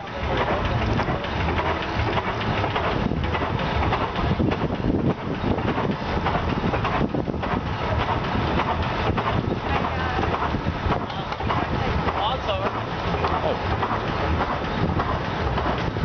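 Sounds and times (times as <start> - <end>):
tractor engine chugging: 0.0 - 16.0.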